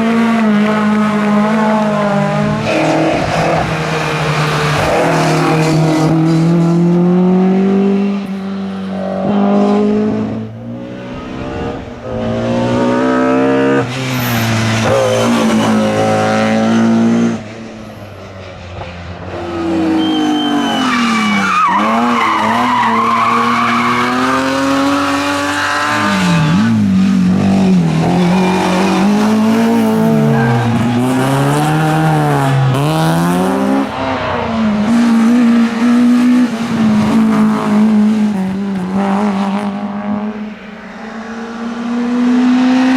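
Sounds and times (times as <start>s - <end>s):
rally car engines revving: 0.0s - 42.9s.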